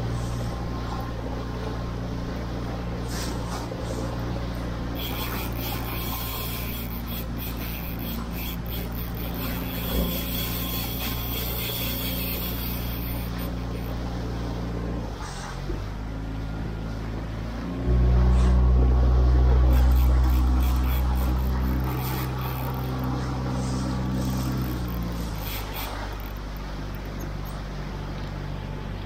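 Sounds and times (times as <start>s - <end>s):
outboard motor droning: 0.0s - 29.0s
wind: 0.0s - 29.0s.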